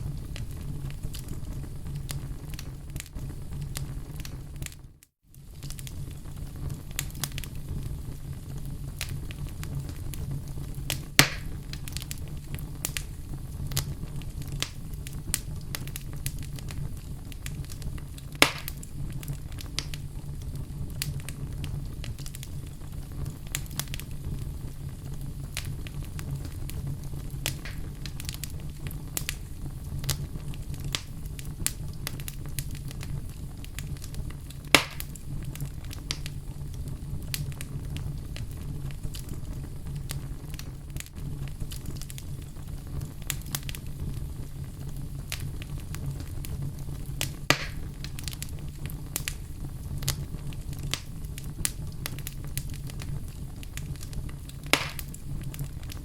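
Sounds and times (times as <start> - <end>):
fire crackling in fireplace: 0.0 - 56.0
loud fire pops: 0.0 - 56.0.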